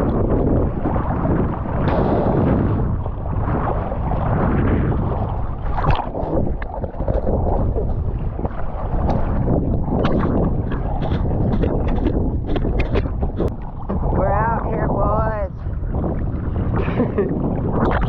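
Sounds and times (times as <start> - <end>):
ocean water sloshing and splashing: 0.0 - 18.0
wind buffeting microphone: 0.0 - 18.0.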